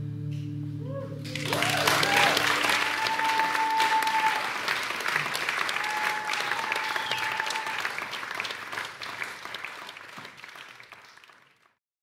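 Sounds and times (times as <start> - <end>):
audience applauding: 1.2 - 11.8.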